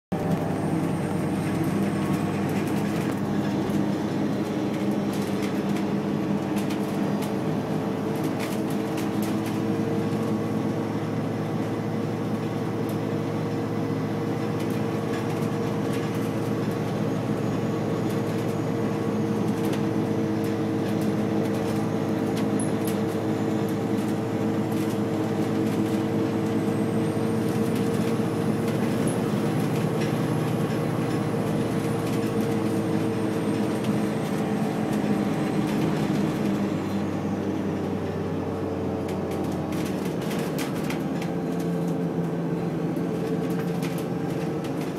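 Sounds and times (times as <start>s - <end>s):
bus diesel engine running: 0.0s - 44.9s
bus body rattling: 0.1s - 44.9s.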